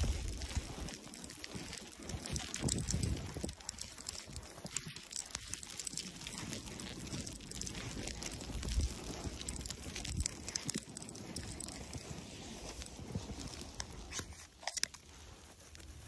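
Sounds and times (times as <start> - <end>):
boots crunching through snow: 0.0 - 16.0.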